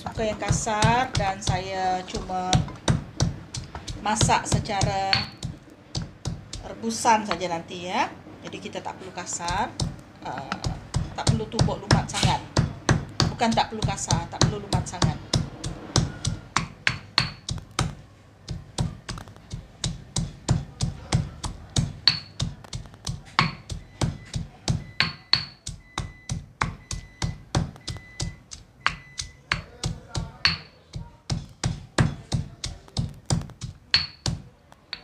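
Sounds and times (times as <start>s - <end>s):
pestle pounding in stone mortar: 0.0s - 7.6s, 9.3s - 35.0s.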